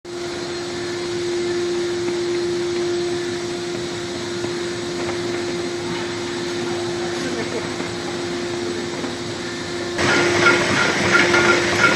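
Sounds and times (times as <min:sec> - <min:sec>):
machine whirring with hum: 0:00.1 - 0:11.9.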